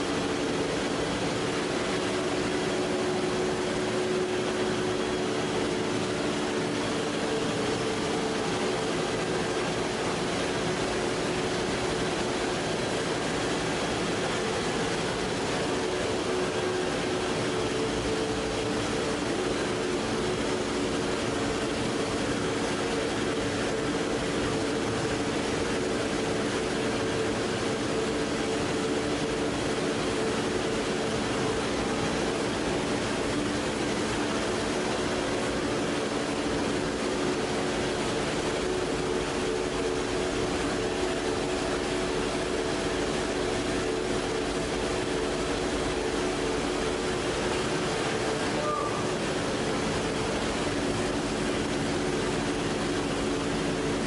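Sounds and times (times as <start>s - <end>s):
machine hum with held tones: 0.0s - 54.0s.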